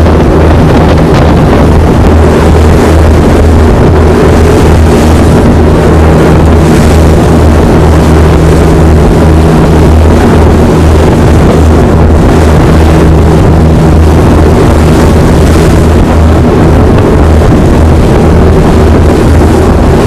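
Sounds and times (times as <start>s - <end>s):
boat diesel engines droning: 0.0s - 20.0s.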